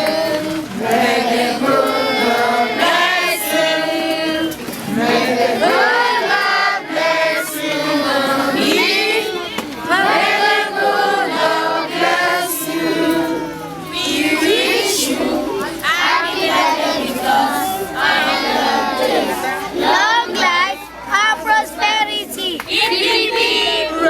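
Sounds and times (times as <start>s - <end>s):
group singing in chorus: 0.0s - 20.8s, 21.4s - 24.0s.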